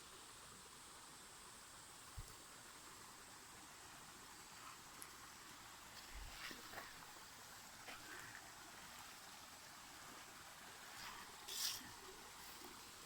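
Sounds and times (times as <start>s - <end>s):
flowing water hiss: 0.0s - 13.0s.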